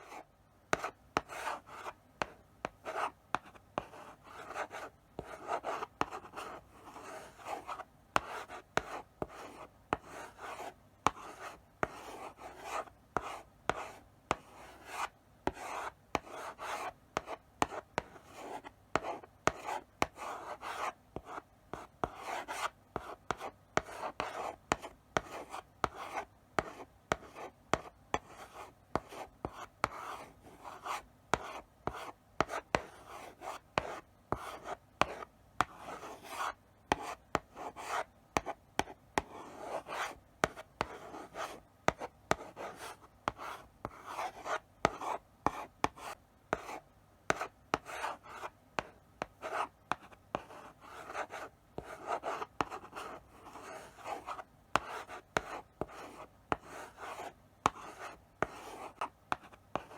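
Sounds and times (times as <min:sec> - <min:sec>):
chalk scratching on blackboard: 0:00.0 - 0:59.9
chalk tapping on board: 0:00.7 - 0:10.4, 0:11.1 - 0:28.4, 0:30.8 - 0:59.9.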